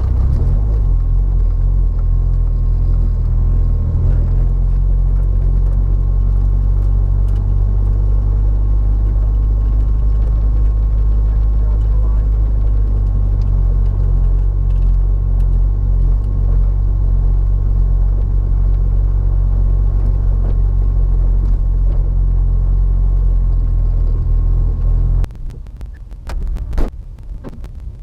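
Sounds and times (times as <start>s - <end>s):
vehicle engine and road drone: 0.0s - 28.0s.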